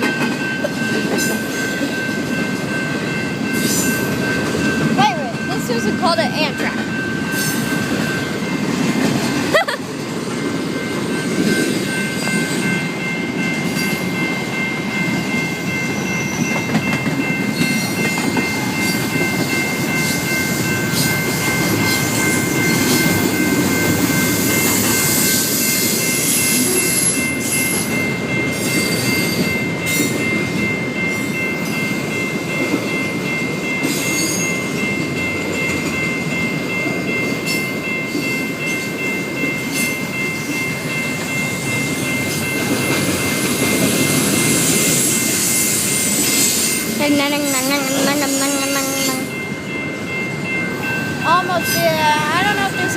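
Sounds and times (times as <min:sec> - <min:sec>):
high-pitched tones: 0:00.0 - 0:52.9
train cars rumbling on track: 0:00.0 - 0:52.9.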